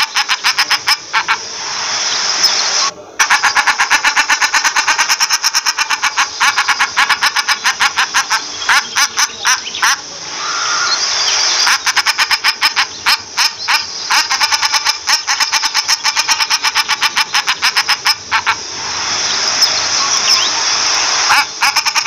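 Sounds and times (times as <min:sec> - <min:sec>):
shelduck calling: 0:00.0 - 0:01.6, 0:02.8 - 0:18.7, 0:19.5 - 0:22.0.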